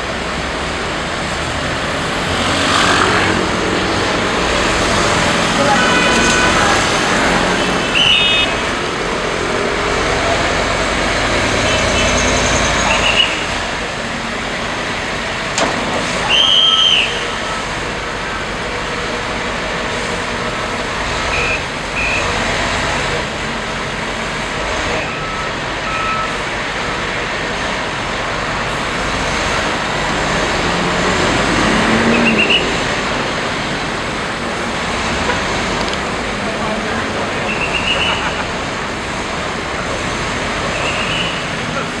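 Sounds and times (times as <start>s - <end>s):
diesel engines running: 0.0s - 42.0s
street traffic noise: 0.0s - 42.0s.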